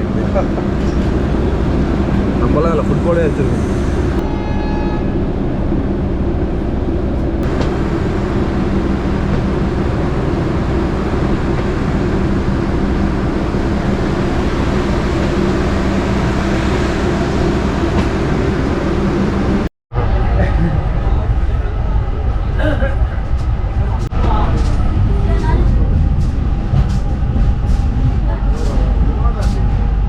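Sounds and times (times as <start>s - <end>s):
train wheels rumbling on rails: 0.0s - 4.4s, 5.0s - 30.0s.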